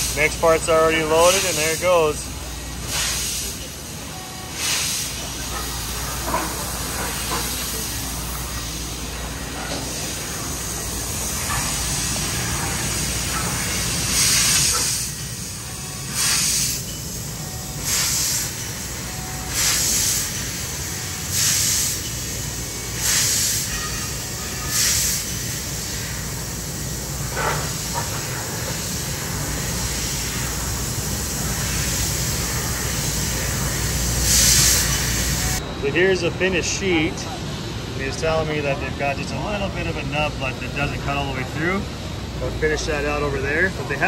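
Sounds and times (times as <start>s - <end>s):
laser cutting hiss: 0.0s - 35.6s.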